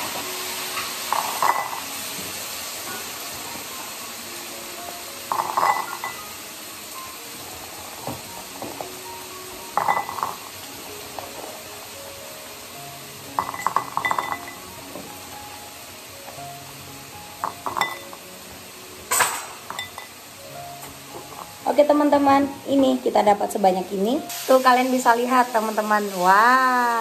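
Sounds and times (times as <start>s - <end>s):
soft background music: 0.0s - 27.0s.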